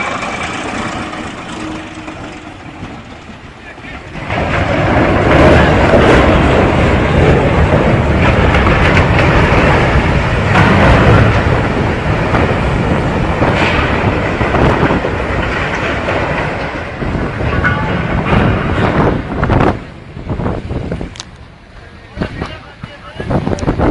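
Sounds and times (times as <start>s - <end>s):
irregular knocks and clatter: 0.0s - 19.9s
loud rumbling and grinding: 0.0s - 23.9s.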